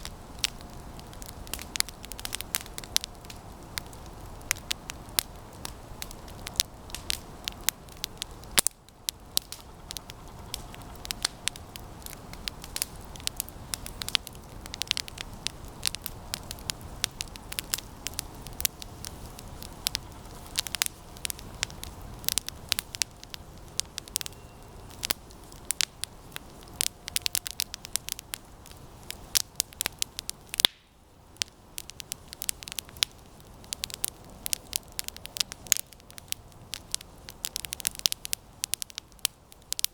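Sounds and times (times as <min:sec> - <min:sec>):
campfire crackling and popping: 0:00.0 - 0:39.9
low rush of flame: 0:00.0 - 0:39.9.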